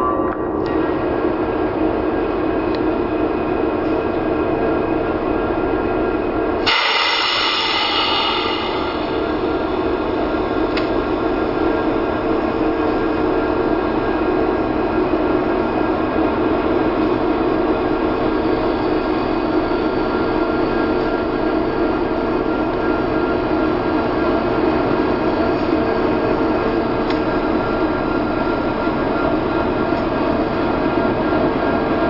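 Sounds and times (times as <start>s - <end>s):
diesel locomotive engine drone: 0.0s - 32.0s
rolling train noise: 0.0s - 32.0s.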